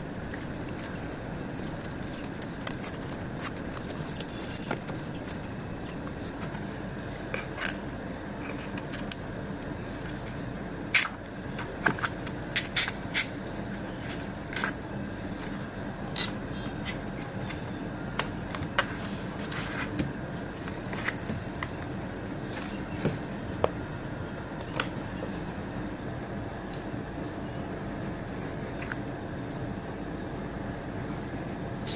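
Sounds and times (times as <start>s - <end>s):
steady background hum: 0.0s - 31.9s.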